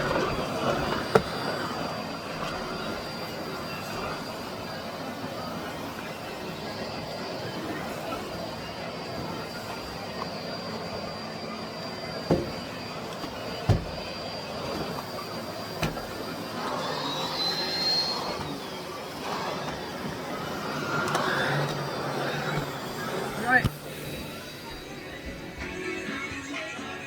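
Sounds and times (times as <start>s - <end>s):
vacuum cleaner whining: 0.0s - 27.0s.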